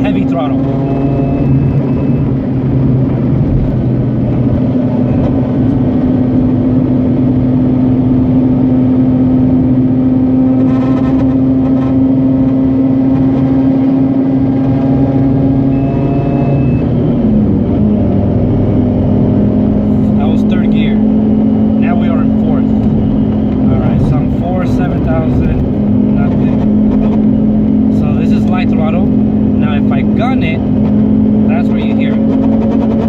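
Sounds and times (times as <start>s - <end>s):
rotary engine at high rpm: 0.0s - 33.0s.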